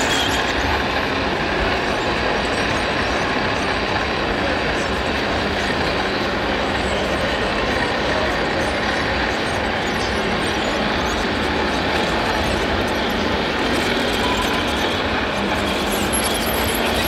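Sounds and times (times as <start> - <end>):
busy indoor hall noise: 0.0 - 17.0
radio-controlled truck driving: 0.0 - 17.0.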